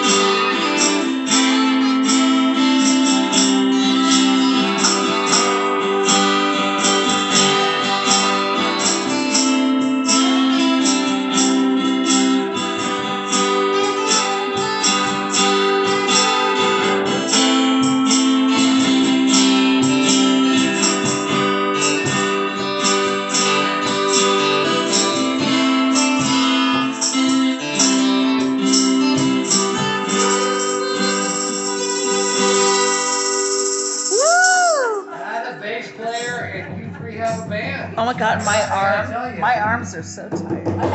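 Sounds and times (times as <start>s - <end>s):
hand percussion beat: 0.0s - 35.2s, 36.2s - 40.9s
acoustic guitars playing: 0.0s - 40.9s.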